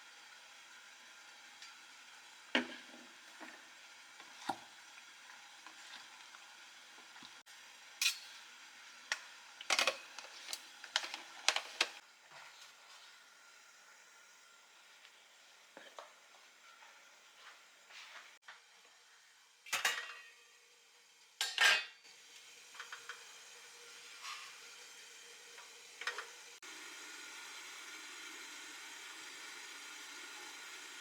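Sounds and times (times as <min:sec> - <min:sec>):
faint sizzle: 0:00.0 - 0:31.0.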